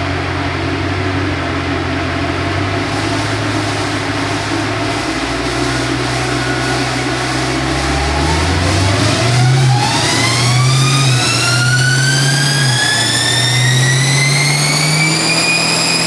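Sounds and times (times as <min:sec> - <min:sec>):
car engine revving on a dyno: 0:01.6 - 0:16.0.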